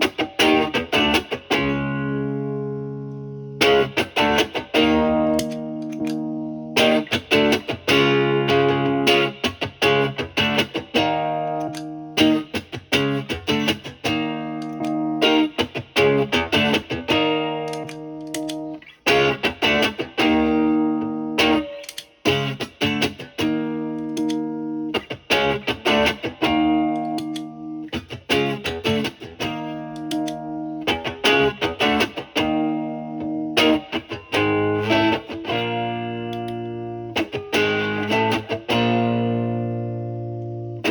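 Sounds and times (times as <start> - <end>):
electric guitar chord phrase: 0.0 - 40.9.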